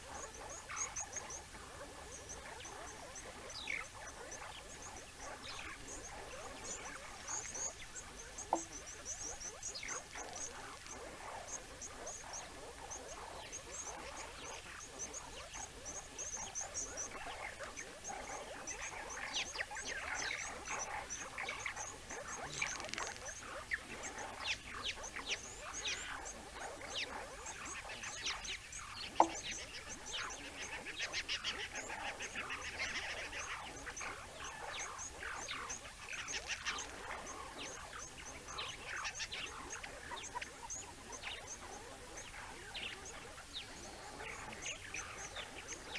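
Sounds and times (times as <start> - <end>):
mongoose chirps and twitters: 0.0 - 45.9.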